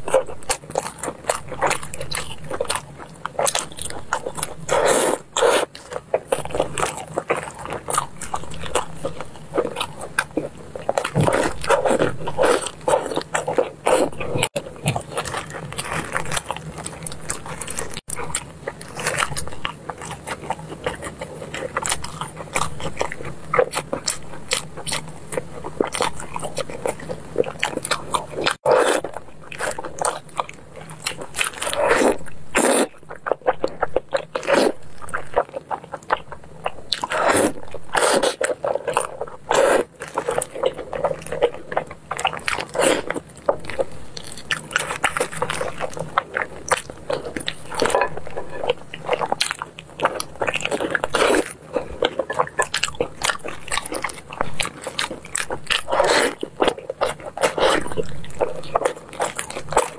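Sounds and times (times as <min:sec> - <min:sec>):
chewing and sticky smacking: 0:00.0 - 0:59.9.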